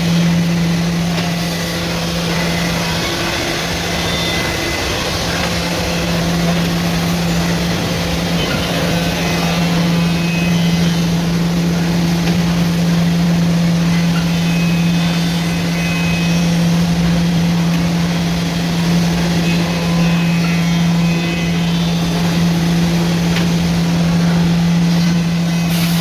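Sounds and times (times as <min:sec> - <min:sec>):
woodworking machinery running: 0:00.0 - 0:26.0.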